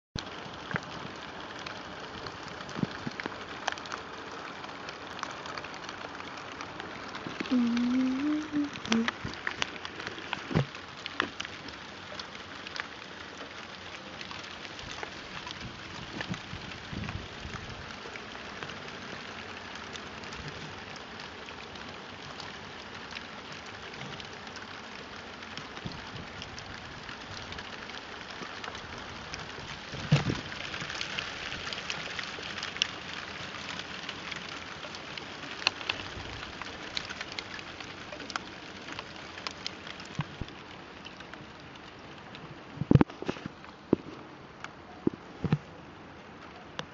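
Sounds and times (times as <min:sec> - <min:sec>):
hail falling: 0:00.2 - 0:44.0.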